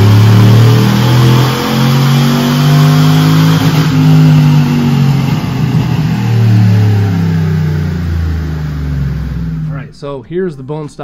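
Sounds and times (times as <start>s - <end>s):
engine revving loudly: 0.0s - 9.9s.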